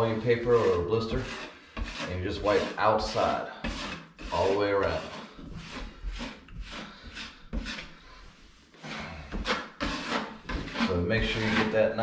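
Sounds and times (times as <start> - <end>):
taping knife scraping compound: 0.0 - 12.0.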